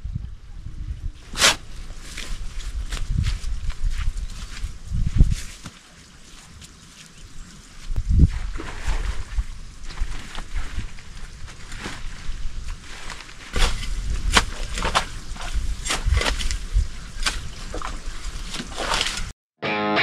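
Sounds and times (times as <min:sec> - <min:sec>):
wind rumble on microphone: 0:00.0 - 0:05.6, 0:07.3 - 0:19.3.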